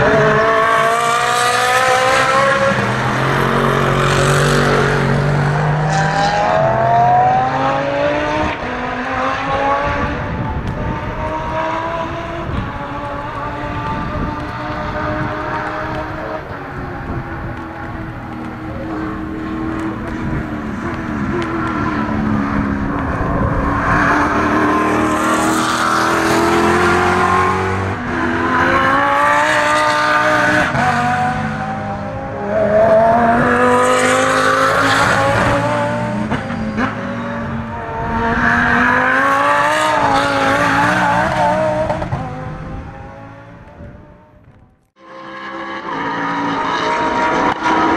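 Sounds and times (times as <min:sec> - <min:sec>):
race cars passing at full throttle: 0:00.0 - 0:47.9.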